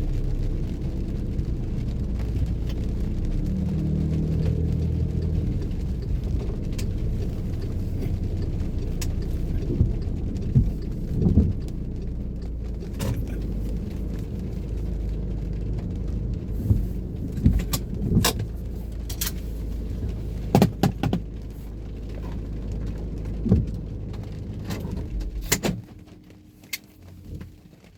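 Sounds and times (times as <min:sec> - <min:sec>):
car cabin rumble: 0:00.0 - 0:27.9
sharp clicks and knocks: 0:00.6 - 0:27.6.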